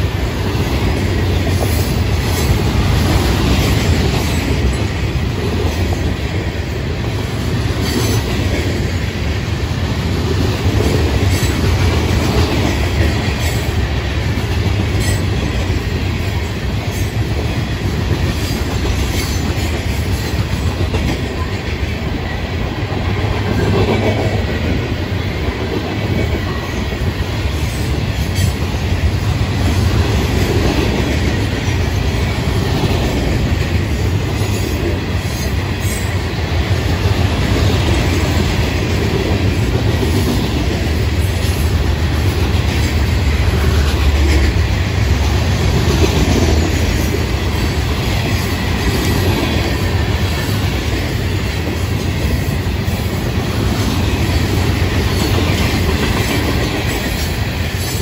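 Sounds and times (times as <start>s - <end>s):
train wheels rumbling and clacking: 0.0s - 58.0s.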